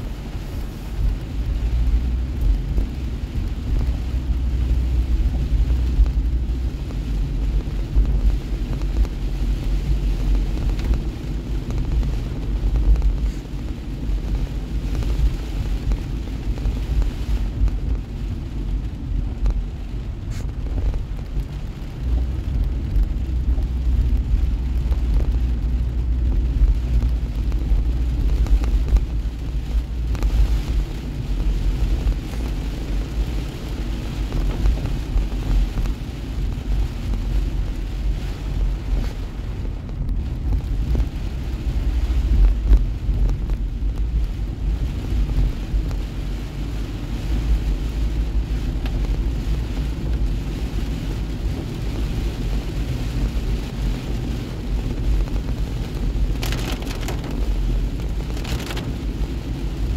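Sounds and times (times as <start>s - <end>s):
car engine and tyres rumbling: 0.0s - 59.9s
rain hissing on car: 0.0s - 59.9s.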